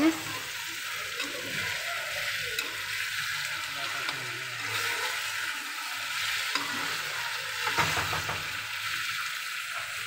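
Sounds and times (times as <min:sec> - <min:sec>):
food sizzling in oil: 0:00.0 - 0:10.0
spatula scraping a pan: 0:00.0 - 0:10.0.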